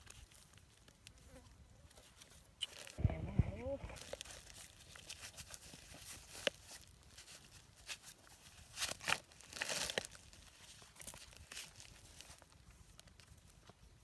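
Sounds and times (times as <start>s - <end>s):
dry reeds and plastic crackling: 0.0s - 14.0s.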